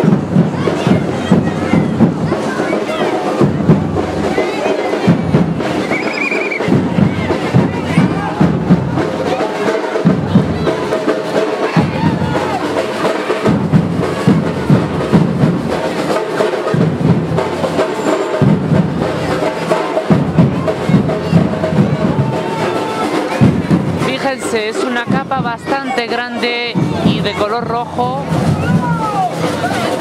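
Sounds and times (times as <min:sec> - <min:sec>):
bass drums beating: 0:00.0 - 0:30.0
drum band playing: 0:00.0 - 0:30.0.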